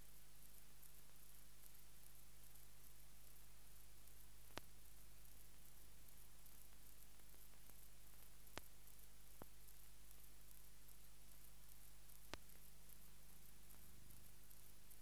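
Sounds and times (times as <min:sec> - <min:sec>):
faint clicks: 0:00.0 - 0:15.0
faint hum and hiss: 0:00.0 - 0:15.0.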